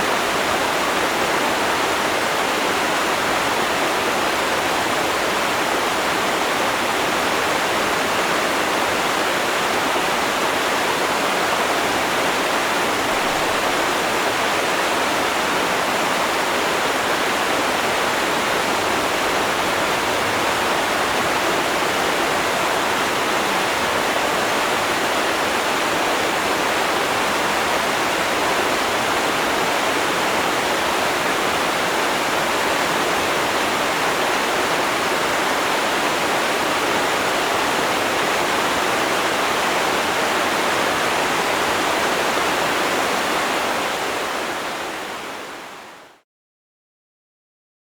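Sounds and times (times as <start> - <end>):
river water rushing and splashing: 0.0 - 46.1.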